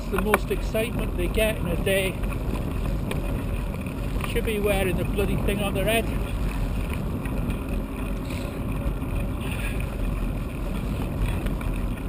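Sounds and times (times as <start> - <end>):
bicycle tyres on wet tarmac: 0.0 - 12.0
wind rumble on microphone: 0.0 - 12.0.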